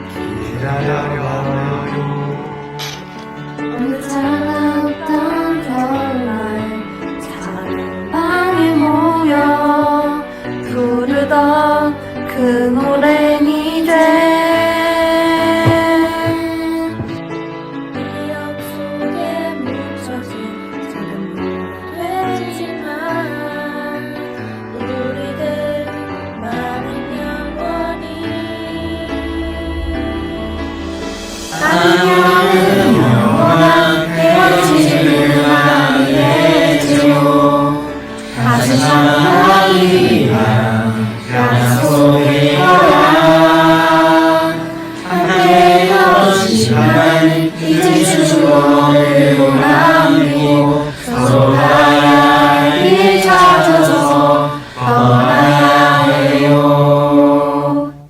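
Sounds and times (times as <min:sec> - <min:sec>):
voices singing: 0:00.0 - 0:17.4, 0:22.0 - 0:58.0.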